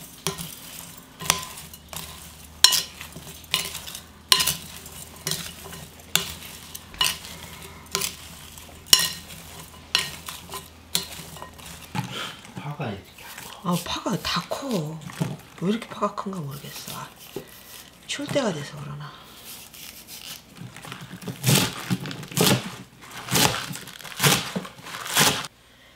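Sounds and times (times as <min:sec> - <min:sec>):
vegetable strips rustling: 0:00.0 - 0:25.5.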